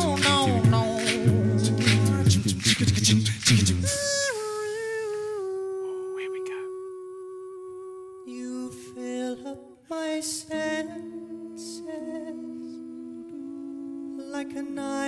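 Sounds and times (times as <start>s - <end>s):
male voices singing in harmony: 0.0s - 15.0s.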